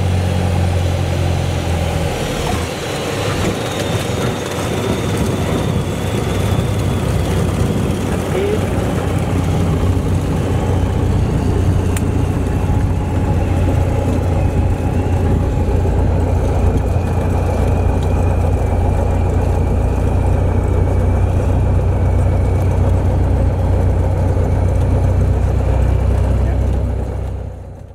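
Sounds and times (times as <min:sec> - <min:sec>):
propeller aircraft engine running: 0:00.0 - 0:27.9.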